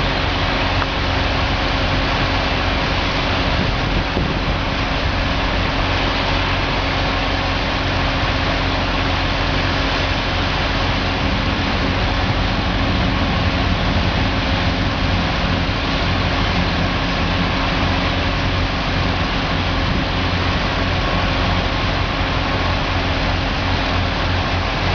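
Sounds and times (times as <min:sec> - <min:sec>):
engine running: 0:00.0 - 0:24.9.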